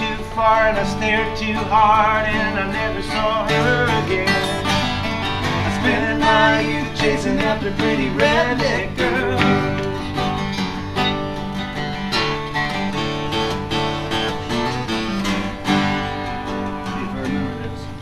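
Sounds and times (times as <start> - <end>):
acoustic guitars strumming: 0.0 - 18.0.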